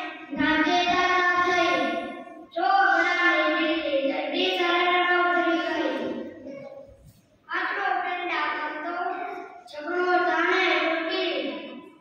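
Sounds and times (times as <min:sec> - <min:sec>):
boy chanting a poem: 0:00.0 - 0:06.9, 0:07.5 - 0:12.0.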